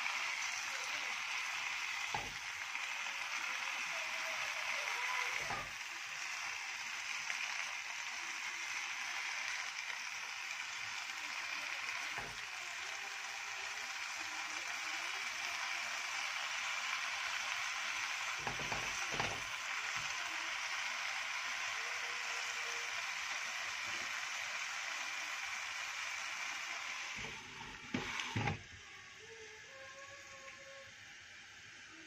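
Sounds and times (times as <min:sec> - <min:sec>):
spinach sizzling in a pan: 0:00.0 - 0:32.0.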